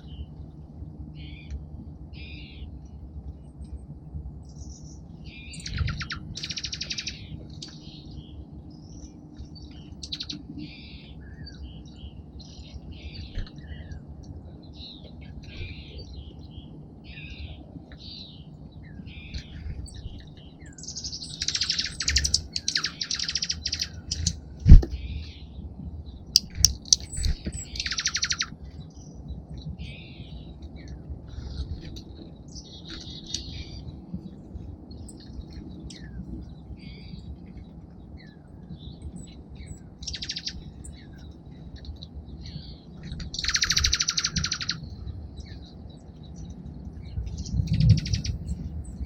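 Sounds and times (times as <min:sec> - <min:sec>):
small songbirds chirping: 0:00.0 - 0:49.0.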